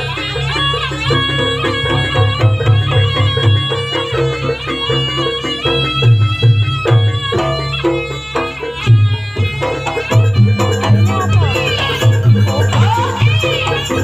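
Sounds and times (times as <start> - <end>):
drum strokes: 0.0 - 14.0
reed shawm melody: 0.0 - 14.0.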